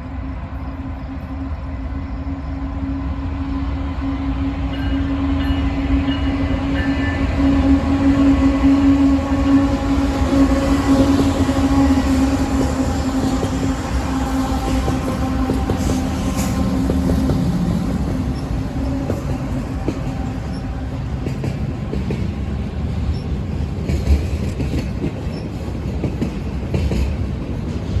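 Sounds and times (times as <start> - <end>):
train rolling past: 0.0 - 28.0.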